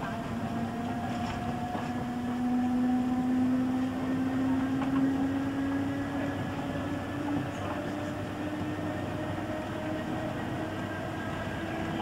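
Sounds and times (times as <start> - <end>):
train running rumble: 0.0 - 12.0
train traction motors whining: 0.0 - 12.0.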